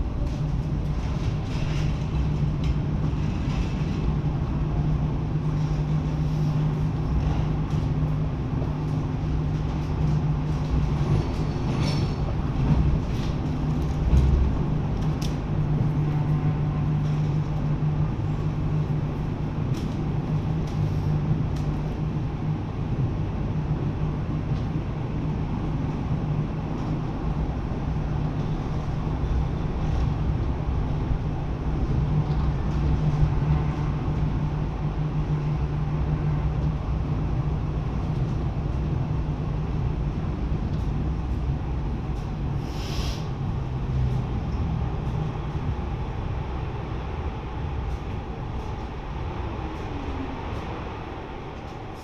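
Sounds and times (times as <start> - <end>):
train rumble and hum: 0.0 - 52.0.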